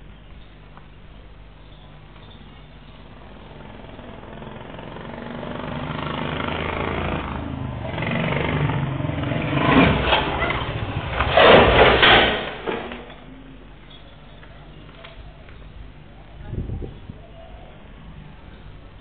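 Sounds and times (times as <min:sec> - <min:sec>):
motor vehicle approaching: 0:00.0 - 0:19.0.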